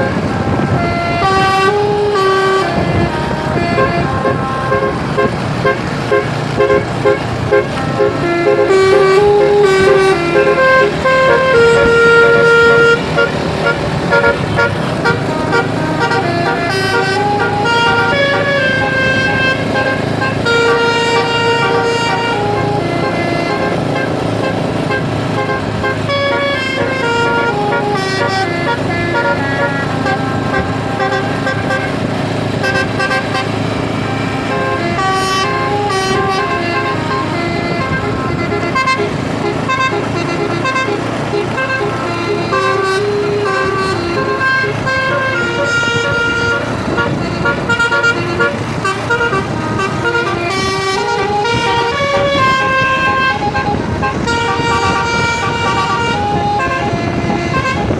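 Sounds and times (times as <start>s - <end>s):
bus horn playing a tune: 0.0s - 57.9s
low vehicle rumble: 0.0s - 57.9s.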